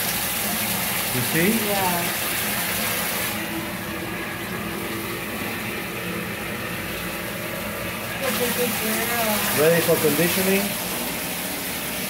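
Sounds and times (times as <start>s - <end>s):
water running from a bathtub tap: 0.0s - 12.0s.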